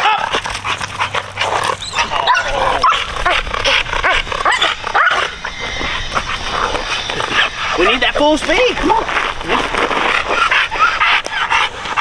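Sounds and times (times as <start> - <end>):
dog whining and yelping: 0.0 - 8.0, 10.0 - 12.0.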